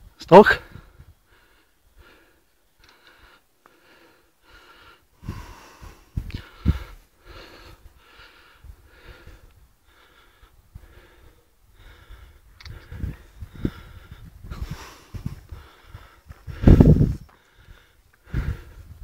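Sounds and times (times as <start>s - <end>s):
person breathing heavily: 0.7s - 19.0s.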